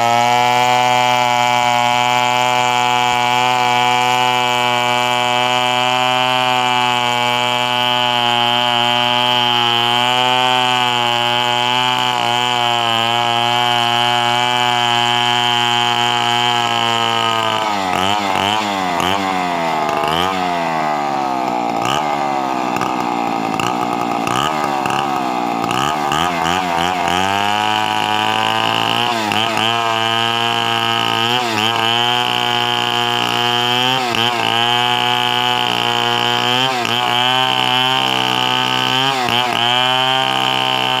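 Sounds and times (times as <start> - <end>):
chainsaw running: 0.0 - 41.0.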